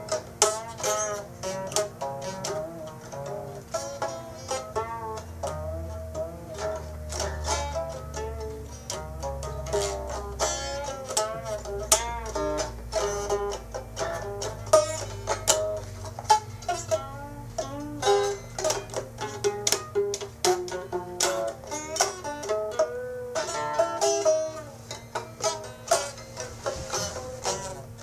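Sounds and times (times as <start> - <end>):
plucked string instrument: 0.0 - 28.0
steady low tone: 0.0 - 28.0.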